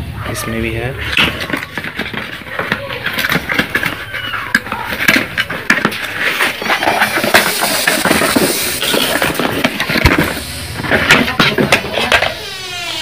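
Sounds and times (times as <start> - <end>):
packaging crackling and rustling: 1.1 - 12.9.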